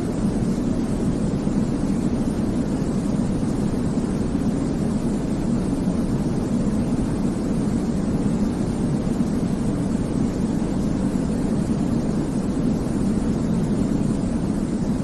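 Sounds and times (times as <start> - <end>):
deep white noise hiss: 0.0 - 15.0.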